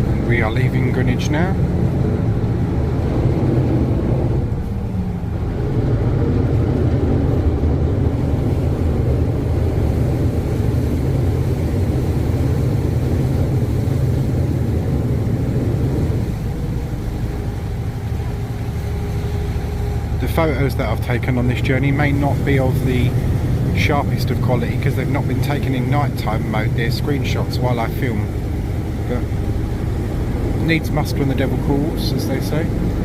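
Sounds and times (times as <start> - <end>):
boat engines rumbling: 0.0 - 33.0.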